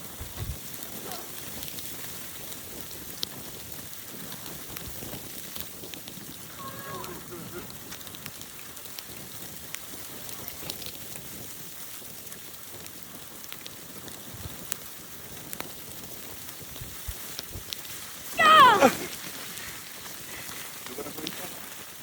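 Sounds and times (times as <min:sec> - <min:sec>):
snowstorm wind hiss: 0:00.0 - 0:22.0.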